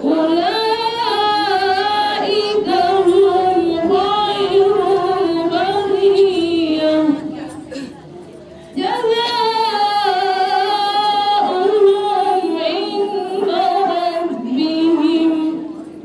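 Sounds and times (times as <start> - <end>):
woman chanting into a microphone: 0.0 - 7.8, 8.7 - 15.8.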